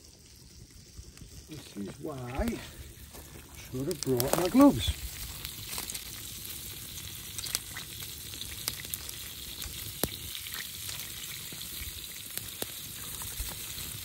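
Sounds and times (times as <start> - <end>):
embers popping and crackling: 0.0 - 14.0
scallops sizzling over fire: 0.0 - 14.0.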